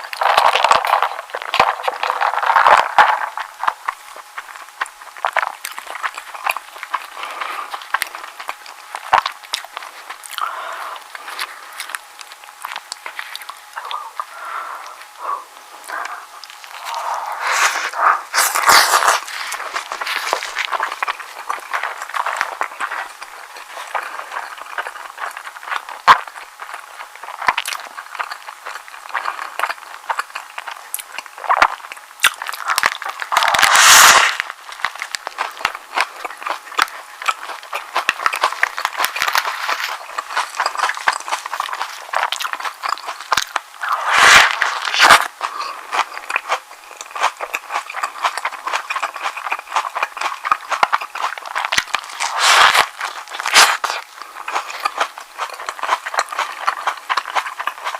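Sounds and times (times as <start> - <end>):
chewing and mouth clicks: 0.0 - 57.9.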